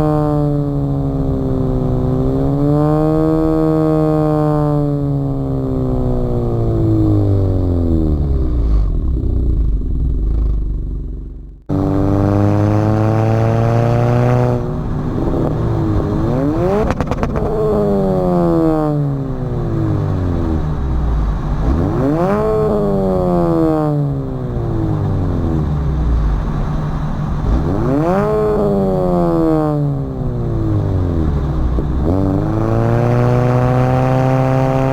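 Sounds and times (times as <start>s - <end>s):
car exhaust note: 0.0s - 34.9s
exhaust crackle: 0.0s - 34.9s.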